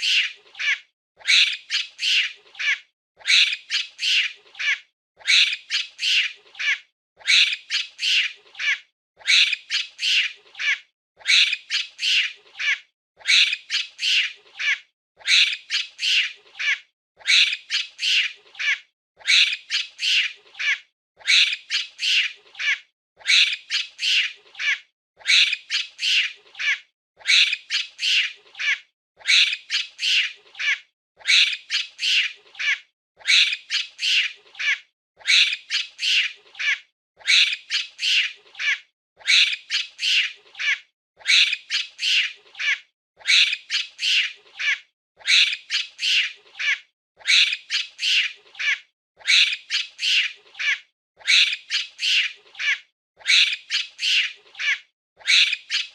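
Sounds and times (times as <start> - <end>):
monkey shrieking: 0.0 - 55.9.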